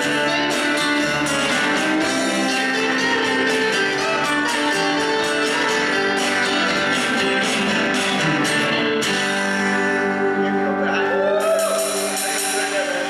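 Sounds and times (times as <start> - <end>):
electric guitars: 0.0 - 13.0
strummed acoustic guitar: 0.0 - 13.0.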